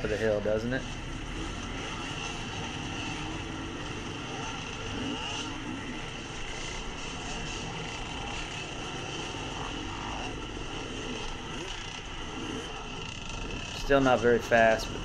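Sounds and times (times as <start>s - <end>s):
dirt bike engines idling: 0.0s - 15.0s.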